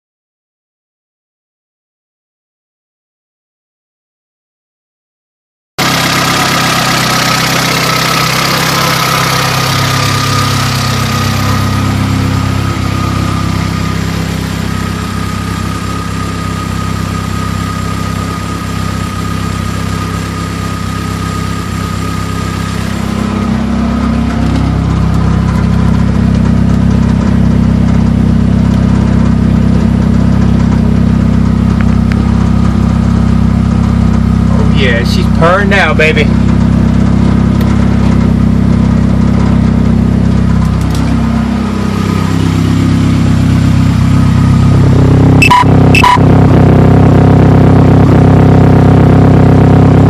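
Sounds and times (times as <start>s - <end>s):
car engine idling: 5.8s - 50.0s.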